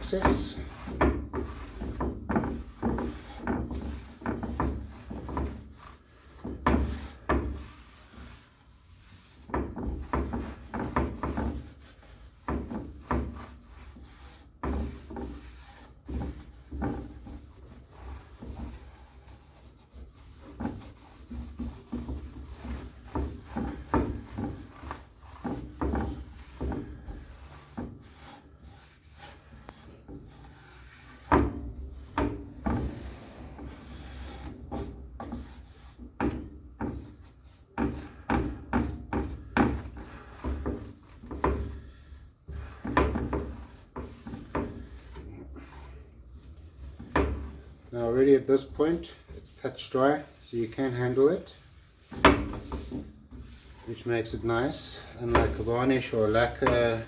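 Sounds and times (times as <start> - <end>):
cloth rubbing on wood: 0.0 - 57.0.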